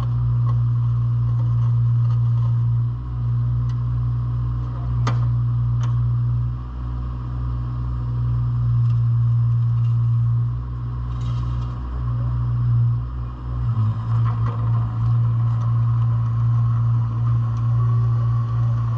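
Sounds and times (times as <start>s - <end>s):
diesel engine running: 0.0s - 18.9s
high whine: 0.0s - 18.9s.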